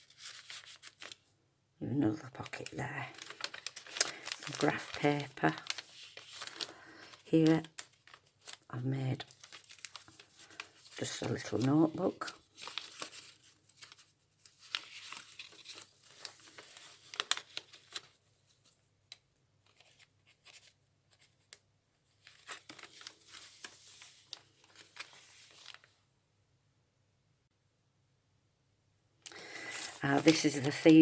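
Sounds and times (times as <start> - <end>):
paper pages rustling and crackling: 0.0 - 1.2, 2.2 - 26.0, 29.3 - 31.0.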